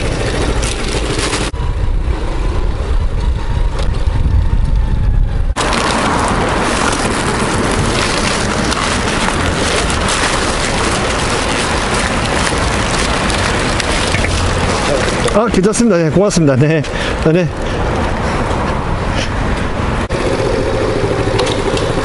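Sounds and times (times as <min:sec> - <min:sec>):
motorcycle engine rumble: 0:00.0 - 0:15.7, 0:16.8 - 0:22.0.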